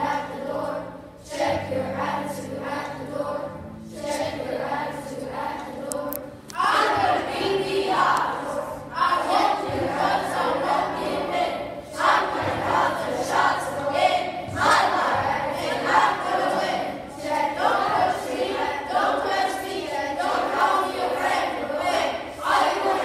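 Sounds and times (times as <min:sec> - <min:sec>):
children singing in unison: 0:00.0 - 0:23.0.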